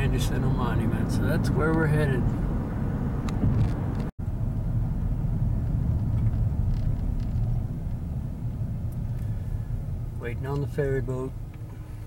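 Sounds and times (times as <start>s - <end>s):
car interior engine rumble: 0.0s - 12.0s.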